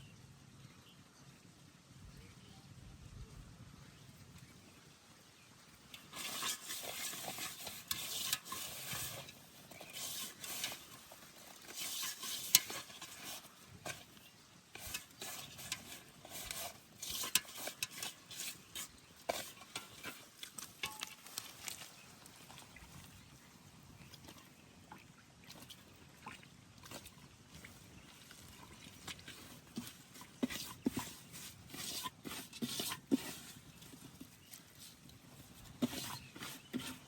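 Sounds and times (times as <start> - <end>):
water splashing: 6.0 - 37.0.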